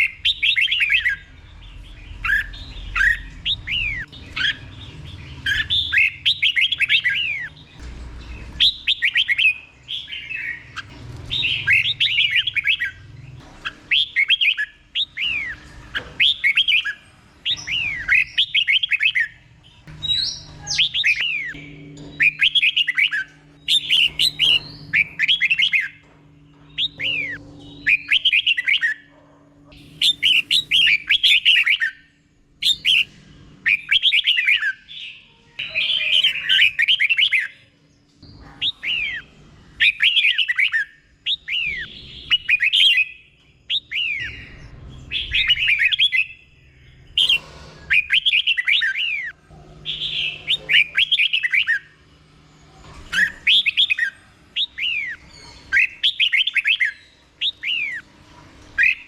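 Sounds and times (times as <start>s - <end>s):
bulbul singing whistled phrases: 0.0s - 7.7s, 8.4s - 13.0s, 13.6s - 26.0s, 26.7s - 29.1s, 29.8s - 52.0s, 53.1s - 58.0s, 58.8s - 59.0s.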